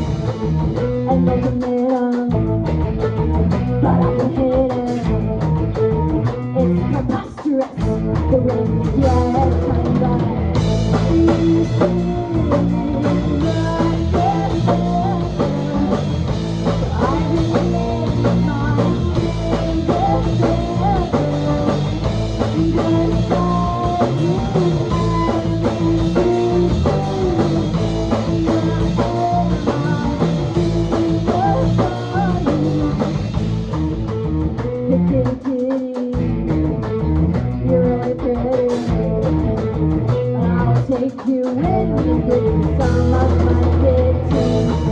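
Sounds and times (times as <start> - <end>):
bass guitar: 0.0 - 44.9
drum kit: 0.0 - 44.9
electric guitar: 0.0 - 44.9.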